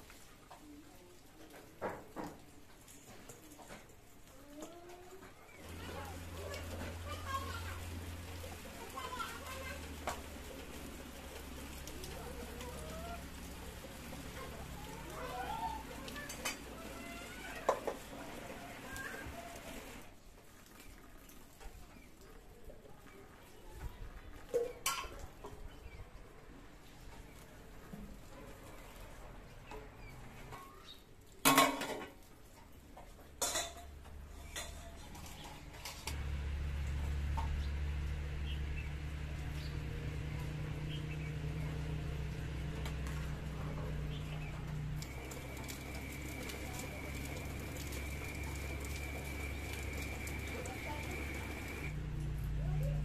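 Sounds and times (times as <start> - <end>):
background noise haze: 0.0 - 53.0.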